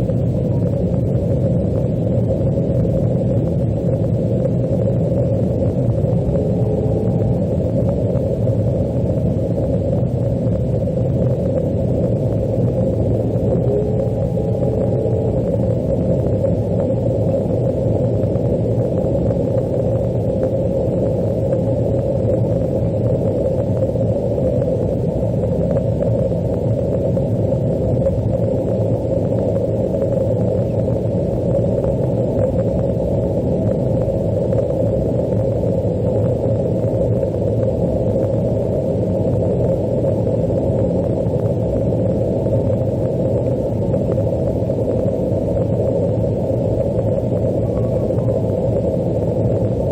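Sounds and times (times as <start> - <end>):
jet engine rumble inside cabin: 0.0 - 49.9.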